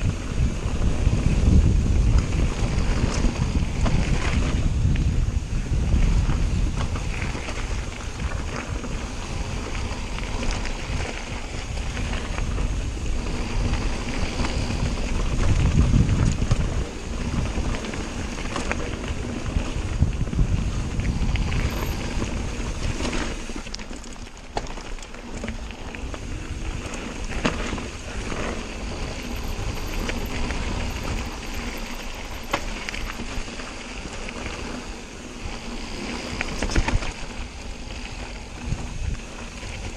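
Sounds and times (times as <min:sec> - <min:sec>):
bike knocking and rattling: 0:00.0 - 0:39.9
tyres on loose dirt: 0:00.0 - 0:39.9
wind buffeting microphone: 0:00.0 - 0:39.9.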